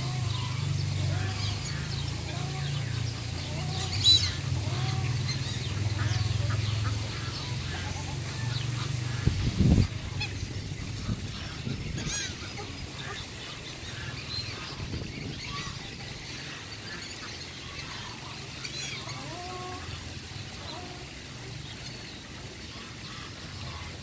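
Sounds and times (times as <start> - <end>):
geese honking: 0.0 - 21.2
ducks calling: 0.0 - 24.0.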